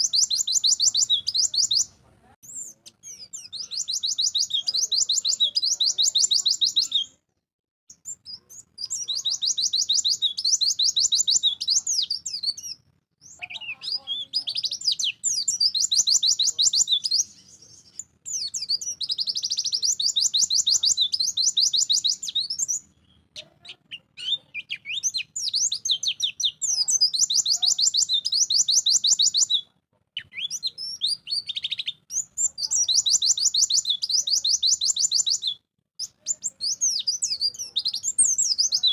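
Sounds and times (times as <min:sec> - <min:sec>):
bird singing high trills: 0:00.0 - 0:07.2, 0:08.0 - 0:23.1, 0:23.8 - 0:29.6, 0:30.2 - 0:38.9.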